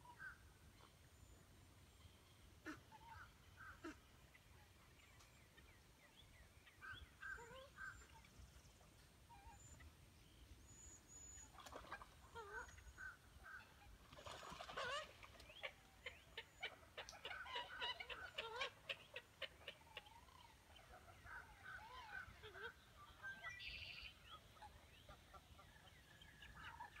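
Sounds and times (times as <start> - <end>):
faint bird calls: 0.0 - 10.0, 10.6 - 27.0.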